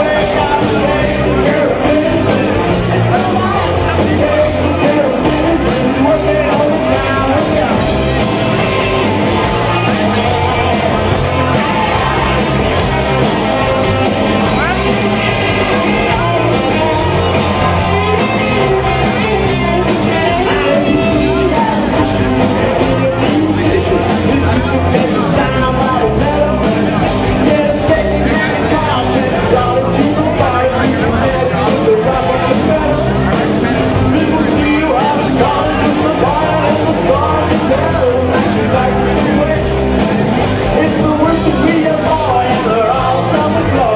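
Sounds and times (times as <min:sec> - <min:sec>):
drums fast beat: 0:00.0 - 0:43.9
live band playing: 0:00.0 - 0:43.9
person singing: 0:00.0 - 0:43.9.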